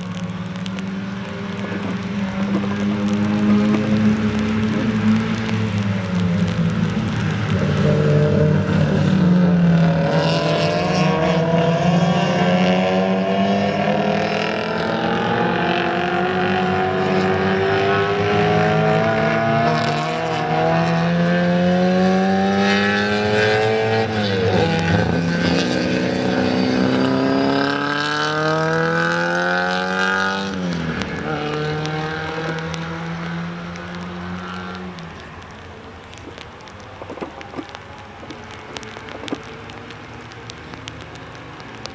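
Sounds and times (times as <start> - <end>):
race car engines accelerating: 0.0 - 41.9.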